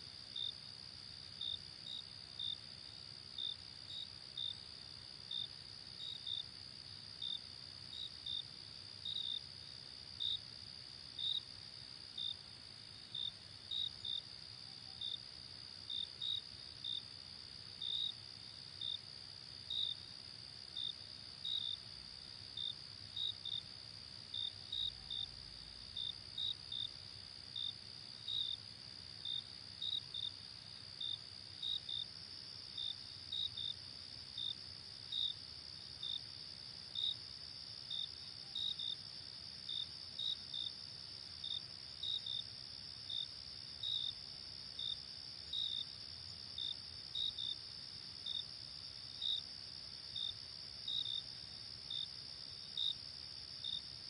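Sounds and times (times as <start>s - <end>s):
insect chirps: 0.0s - 54.0s.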